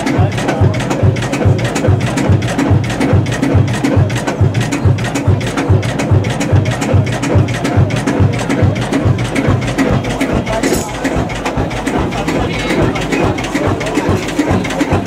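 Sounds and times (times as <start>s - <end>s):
music with quick percussive beat: 0.0s - 15.0s.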